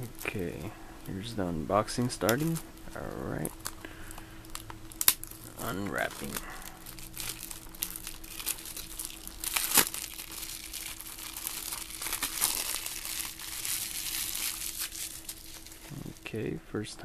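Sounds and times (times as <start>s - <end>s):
plastic shrink wrap crinkling: 2.1s - 16.4s.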